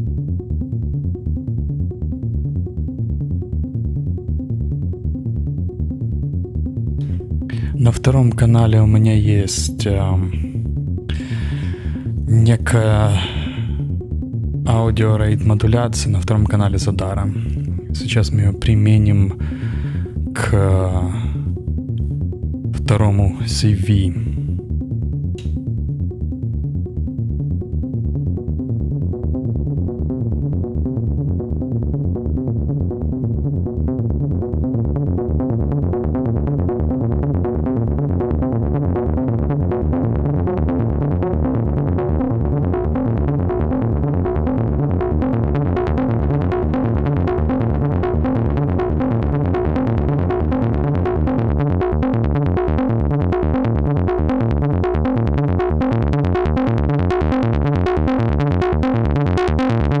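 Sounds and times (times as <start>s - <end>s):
fast synthesizer sequence: 0.0s - 60.0s.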